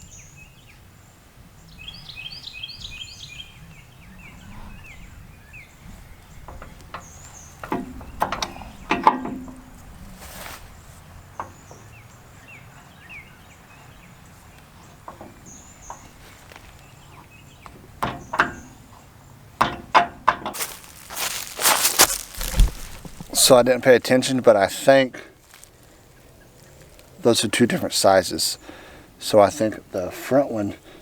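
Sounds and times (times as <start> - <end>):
birds chirping faintly: 1.6 - 19.6, 20.6 - 31.0.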